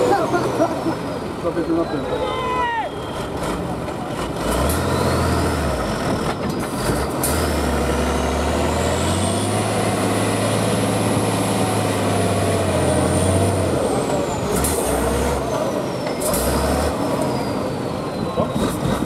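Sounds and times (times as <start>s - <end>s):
diesel truck engine under load: 0.0s - 2.2s, 2.9s - 19.0s.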